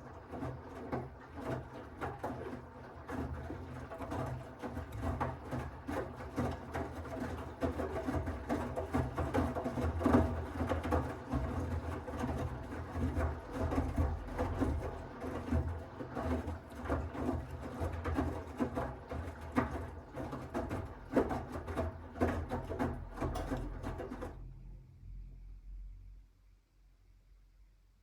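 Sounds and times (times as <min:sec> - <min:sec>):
laundry sloshing in drum: 0:00.0 - 0:24.5
washing machine motor hum: 0:00.0 - 0:25.2.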